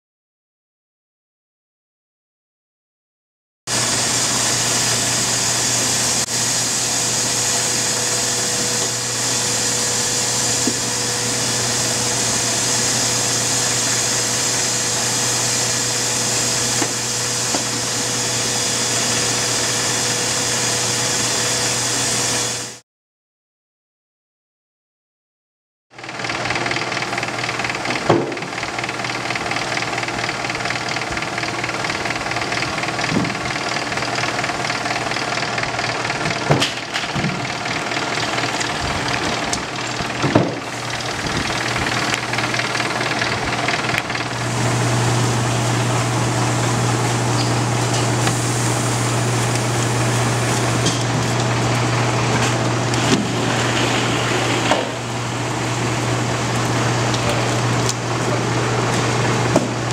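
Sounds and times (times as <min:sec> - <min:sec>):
machine mechanical hum: 0:03.7 - 0:22.8, 0:26.0 - 0:59.9.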